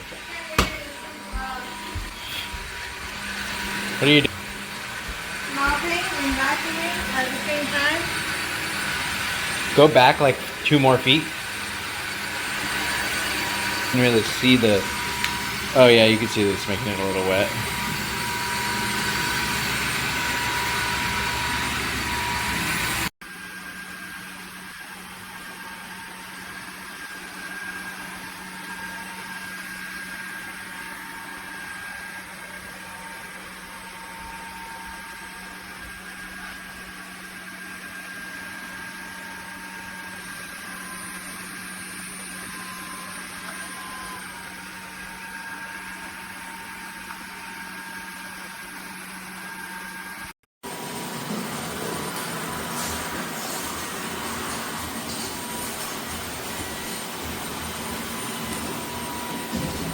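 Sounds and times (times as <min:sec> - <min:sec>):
vacuum mop whining: 0:00.0 - 0:59.9.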